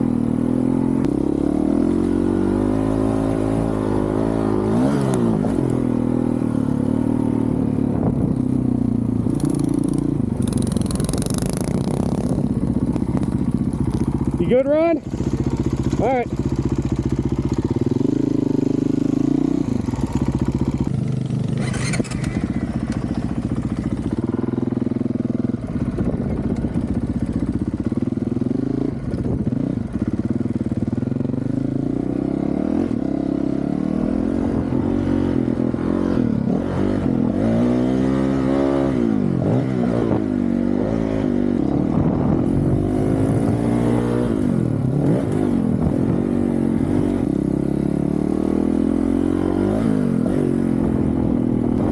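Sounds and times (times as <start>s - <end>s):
dirt bike engine revving: 0.2s - 7.6s, 9.2s - 24.6s, 31.2s - 51.9s.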